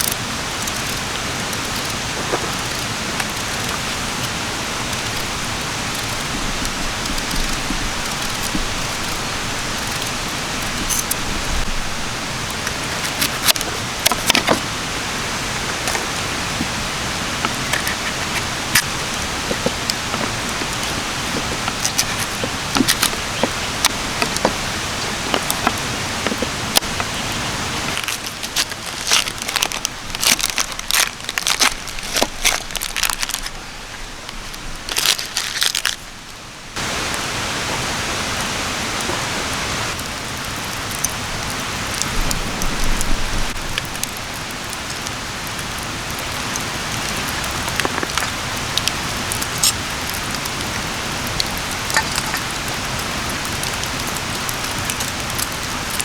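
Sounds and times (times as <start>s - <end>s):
campfire crackling: 0.0s - 56.0s
steady fire hiss: 0.0s - 56.0s.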